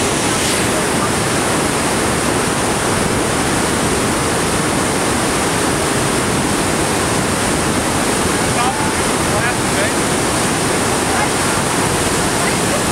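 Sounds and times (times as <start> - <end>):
rushing white water: 0.0 - 12.9.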